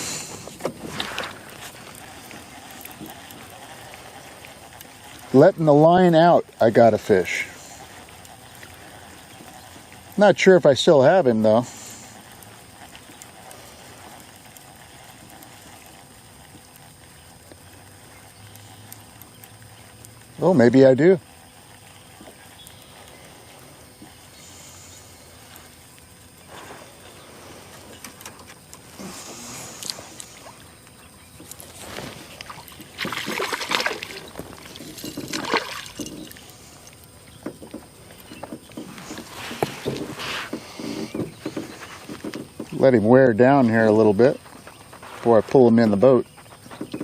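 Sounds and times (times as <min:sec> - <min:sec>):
water washing around a boat: 0:00.0 - 0:45.1
faint steady hum: 0:00.0 - 0:47.0.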